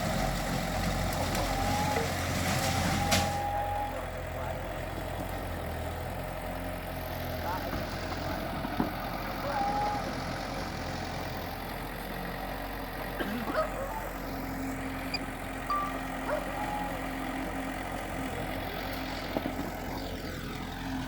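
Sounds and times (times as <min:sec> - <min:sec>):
bulldozer diesel engine idling: 0:00.0 - 0:21.0.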